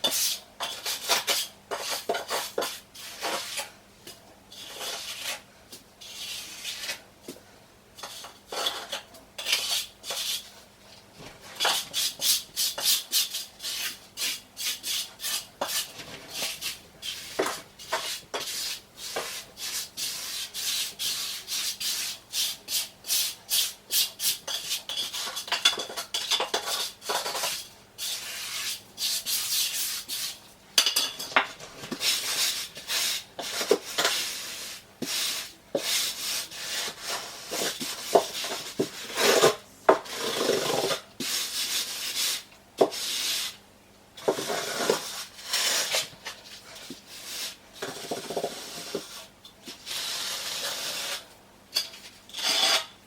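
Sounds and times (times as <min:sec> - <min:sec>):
tool scraping mortar bed: 0:00.0 - 0:03.8, 0:04.5 - 0:05.4, 0:06.0 - 0:07.0, 0:08.0 - 0:10.5, 0:11.4 - 0:30.4, 0:31.3 - 0:43.5, 0:44.2 - 0:53.0.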